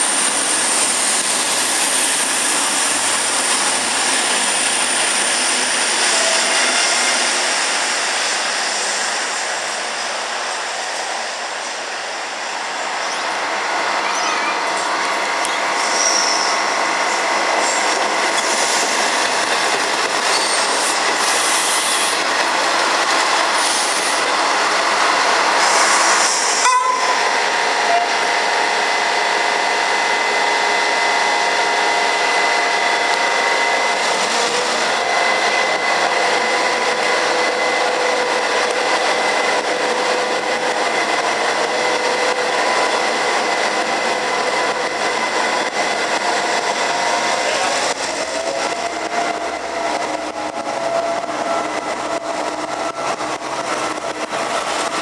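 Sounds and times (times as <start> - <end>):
diesel locomotive engine whine: 0.0 - 55.0
train passing over points: 0.0 - 55.0.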